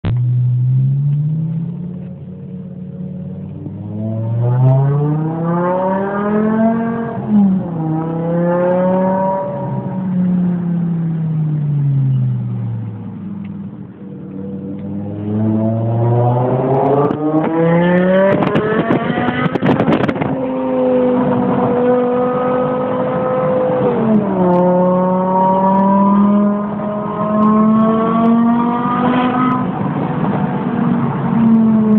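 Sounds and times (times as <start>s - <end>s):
car engine revving: 0.1s - 31.9s.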